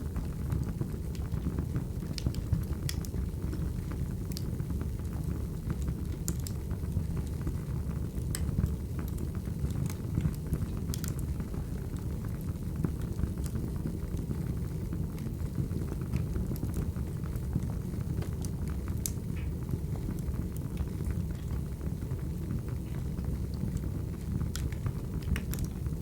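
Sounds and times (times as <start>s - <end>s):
burning logs rumbling: 0.0s - 26.0s
wood fire crackling and popping: 0.1s - 26.0s.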